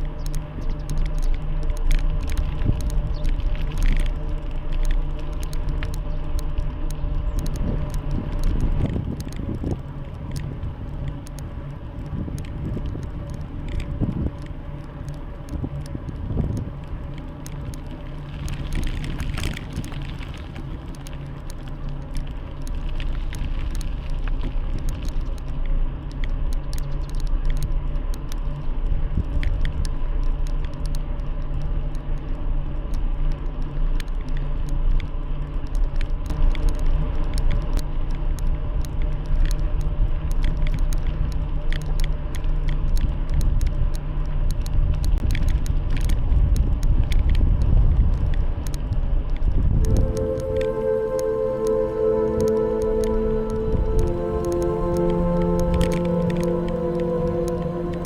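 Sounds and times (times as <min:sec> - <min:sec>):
bicycle tyres rumbling on road: 0:00.0 - 0:49.8.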